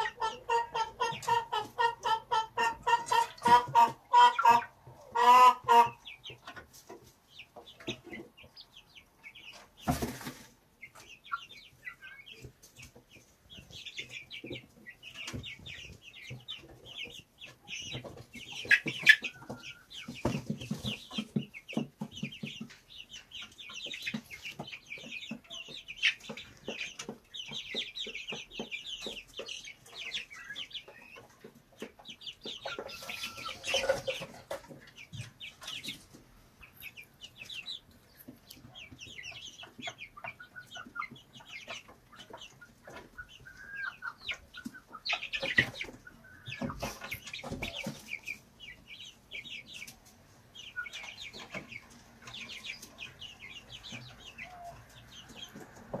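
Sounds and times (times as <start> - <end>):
chicks peeping: 0.0 - 56.0
hens clucking: 0.0 - 56.0.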